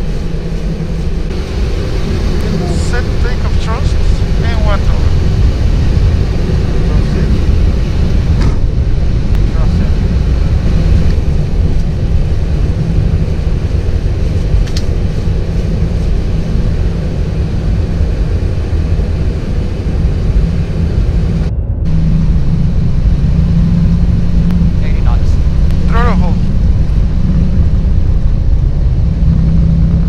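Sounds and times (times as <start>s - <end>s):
jet engines at takeoff thrust: 0.0s - 30.0s
steady low hum: 0.0s - 30.0s
wheels rumbling on runway: 0.0s - 30.0s.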